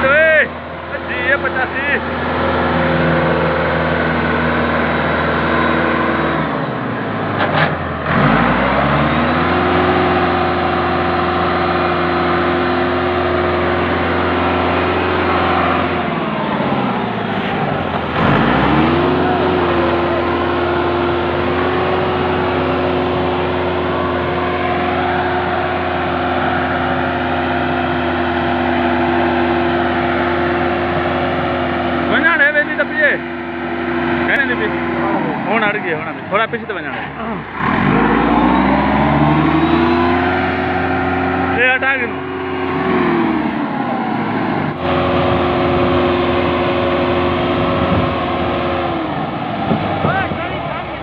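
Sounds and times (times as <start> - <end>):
tractor diesel engine labouring: 0.0 - 51.0.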